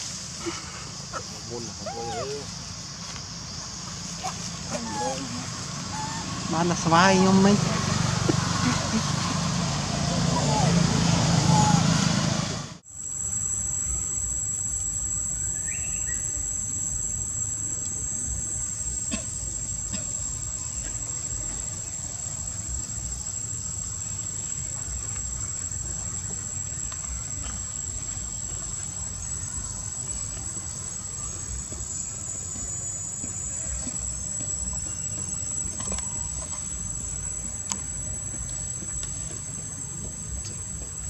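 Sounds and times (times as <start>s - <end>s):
insects droning: 0.0s - 41.0s.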